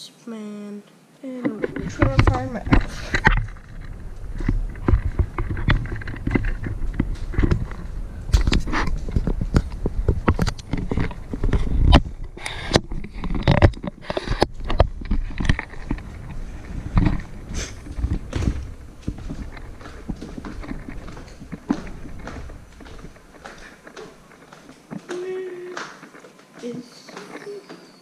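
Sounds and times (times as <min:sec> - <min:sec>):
camera knocks and bumps: 0:01.6 - 0:25.2
footsteps on wooden floor and stairs: 0:01.6 - 0:28.0.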